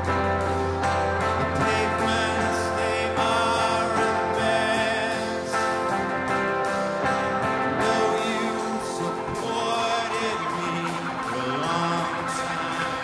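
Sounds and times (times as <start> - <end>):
electric guitar: 0.0 - 13.0
keyboard: 0.0 - 13.0.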